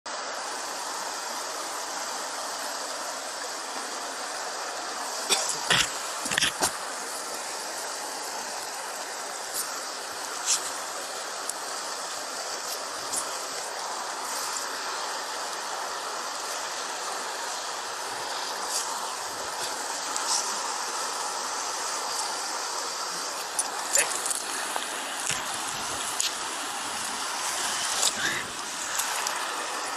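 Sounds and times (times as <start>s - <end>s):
rushing floodwater: 0.1s - 29.9s.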